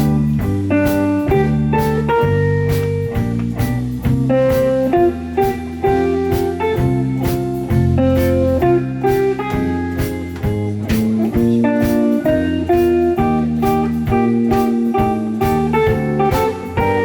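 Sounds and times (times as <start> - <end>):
live pop-jazz ensemble: 0.0 - 17.0.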